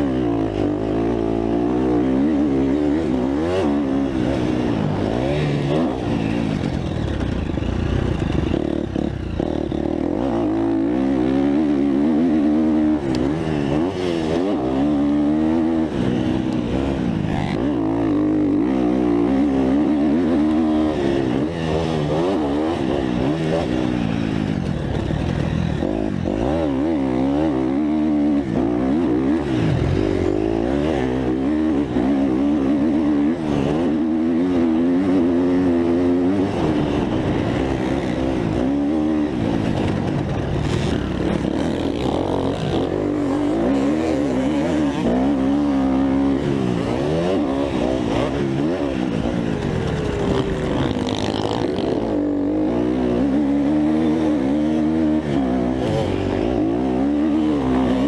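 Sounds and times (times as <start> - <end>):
dirt bike engine revving: 0.0 - 58.0
wind and track noise: 0.0 - 58.0.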